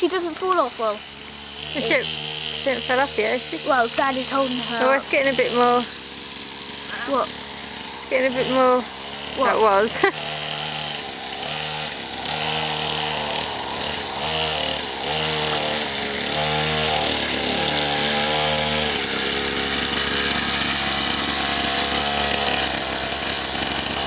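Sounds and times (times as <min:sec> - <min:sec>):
small motorbike engine revving: 0:00.0 - 0:24.0.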